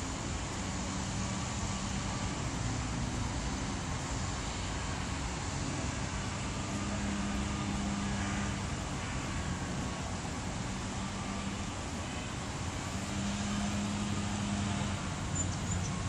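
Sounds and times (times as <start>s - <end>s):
hum of passing vehicles: 0.0s - 16.0s
low engine drone: 0.0s - 16.0s.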